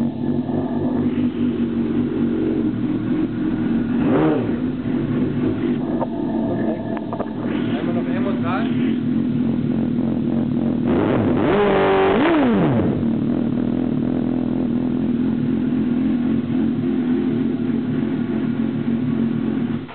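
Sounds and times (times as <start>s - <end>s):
motorcycle engine idling: 0.0s - 10.9s, 12.8s - 19.9s
motorcycle engine revving: 0.0s - 19.9s.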